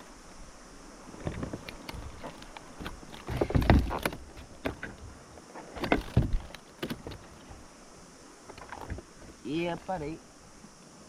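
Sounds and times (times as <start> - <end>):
water splashing against a kayak hull: 0.0 - 9.9.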